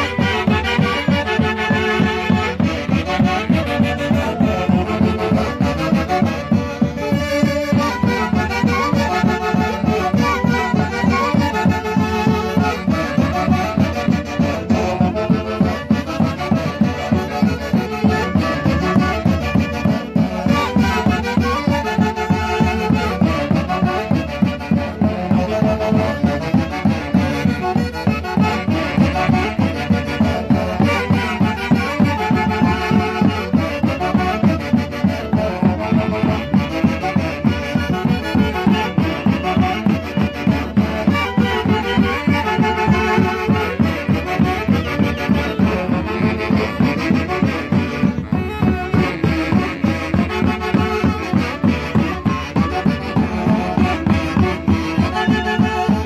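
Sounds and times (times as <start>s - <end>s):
bass drum and snare beat: 0.0s - 56.0s
saxophones and clarinets melody: 0.0s - 56.0s.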